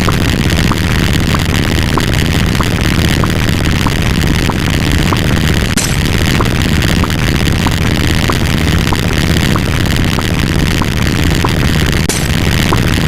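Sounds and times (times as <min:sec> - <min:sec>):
heavy low rumble: 0:00.0 - 0:13.0
overlapping sound effects: 0:00.0 - 0:13.0.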